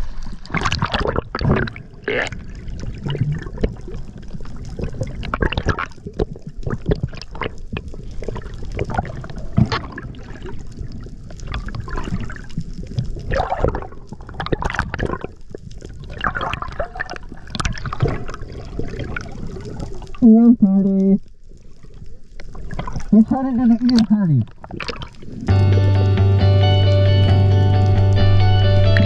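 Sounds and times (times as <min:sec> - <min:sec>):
underwater bubbling and swishing: 0:00.0 - 0:29.0.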